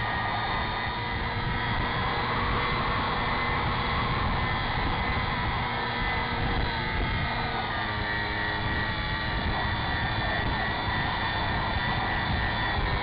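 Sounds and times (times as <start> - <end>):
model airplane motor whine: 0.0 - 13.0
wind on microphone: 0.0 - 13.0.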